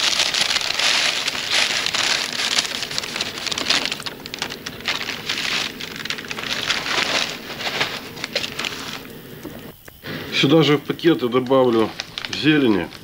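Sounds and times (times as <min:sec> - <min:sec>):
dried vegetables poured into bags: 0:00.0 - 0:09.7, 0:10.3 - 0:13.0.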